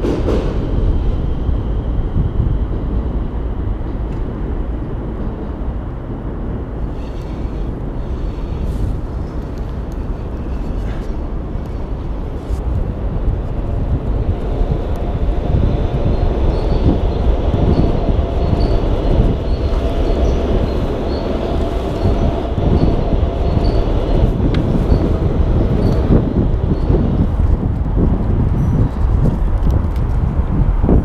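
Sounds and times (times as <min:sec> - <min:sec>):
train rumbling over bridge: 0:00.0 - 0:31.0.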